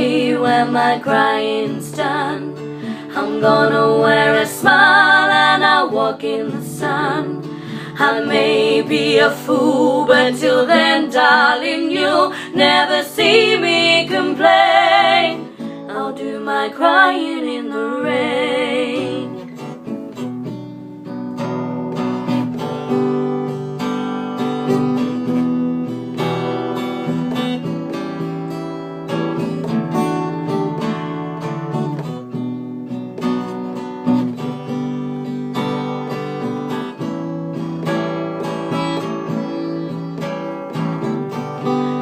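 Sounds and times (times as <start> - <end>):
acoustic guitar ballad: 0.0 - 42.0.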